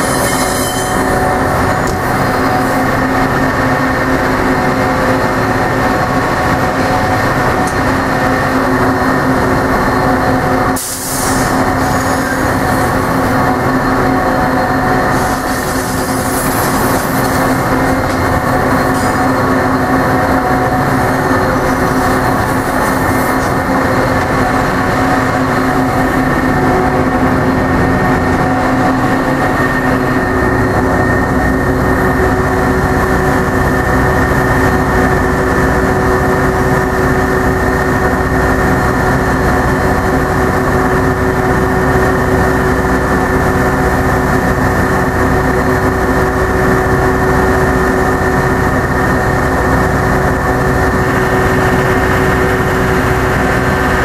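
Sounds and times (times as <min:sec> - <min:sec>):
diesel locomotive idling: 0:00.0 - 0:54.0
train wheels running over rails: 0:00.0 - 0:54.0.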